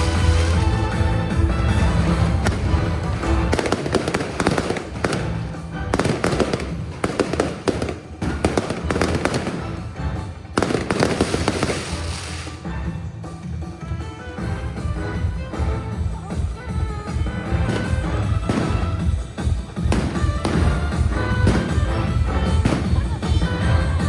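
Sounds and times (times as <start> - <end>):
fireworks bursting and crackling: 0.0 - 12.7, 17.0 - 24.0
music playing: 0.0 - 24.0.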